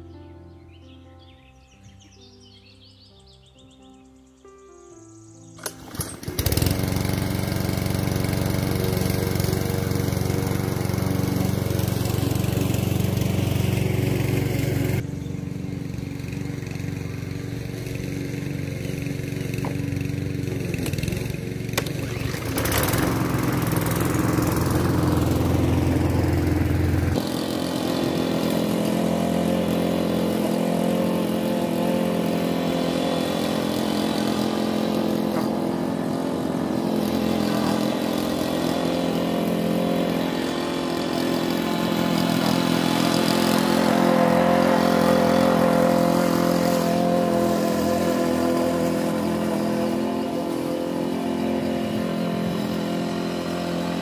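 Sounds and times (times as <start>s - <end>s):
lawn mower engine running: 5.5s - 54.0s.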